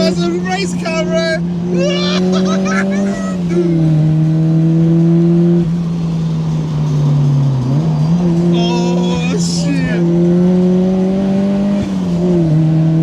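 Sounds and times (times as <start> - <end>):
car engine revving under load: 0.0 - 13.0.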